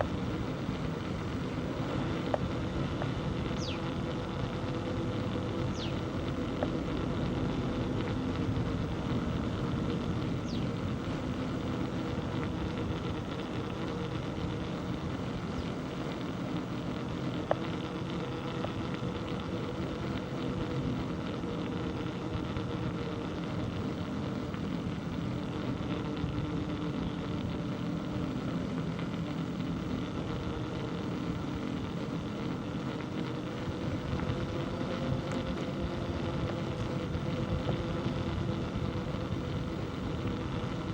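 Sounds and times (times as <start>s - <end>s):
low mechanical hum with tones: 0.0s - 40.9s.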